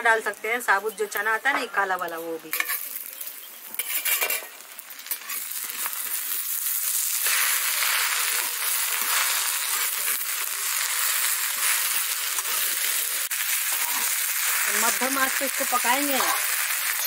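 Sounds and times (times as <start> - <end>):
leaves sizzling in oil: 0.0 - 17.0.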